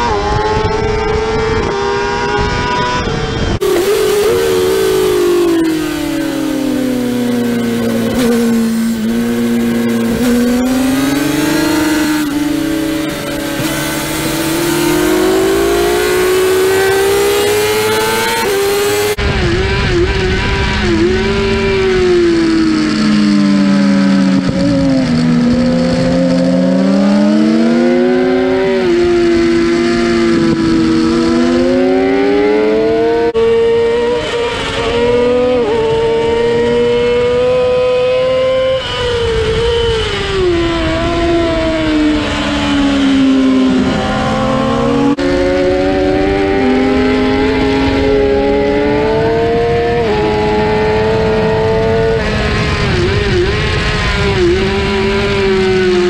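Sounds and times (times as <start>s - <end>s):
racing motorcycle engine: 0.0s - 56.0s
wind rush: 0.0s - 56.0s.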